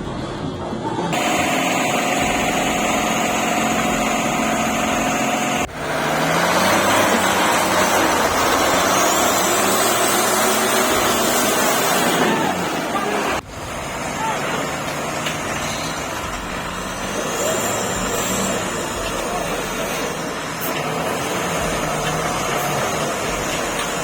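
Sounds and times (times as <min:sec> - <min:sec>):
heavy lorry engine running: 0:00.0 - 0:24.0.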